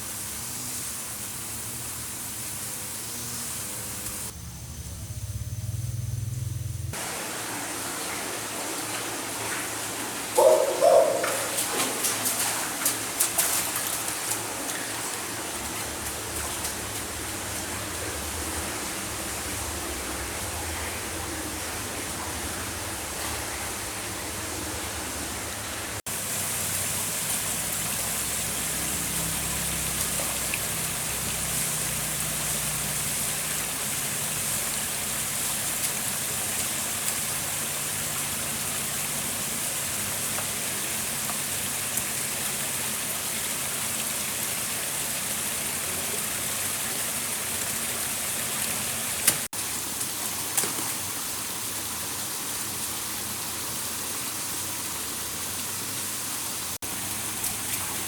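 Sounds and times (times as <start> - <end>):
stream water flowing: 7.0 - 58.0.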